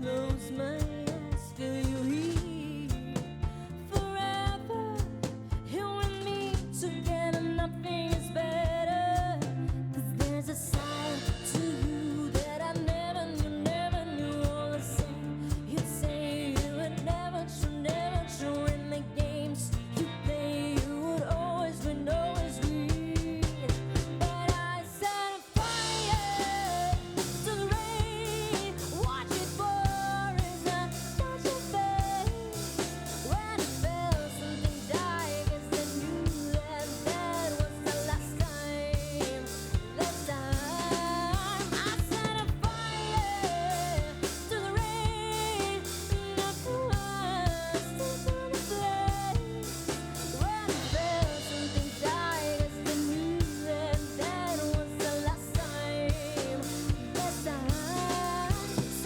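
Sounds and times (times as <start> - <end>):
drum kit beat: 0.0 - 59.0.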